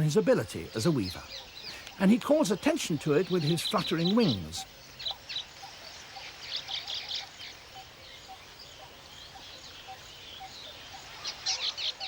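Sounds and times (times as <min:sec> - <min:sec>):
weaver birds chattering: 0:00.0 - 0:12.0.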